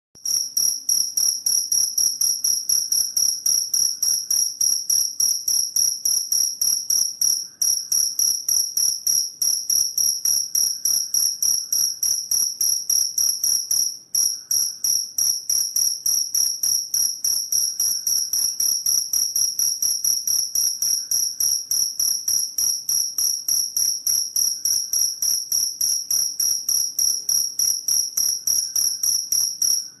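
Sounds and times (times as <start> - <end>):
cricket chirping: 0.2 - 30.0.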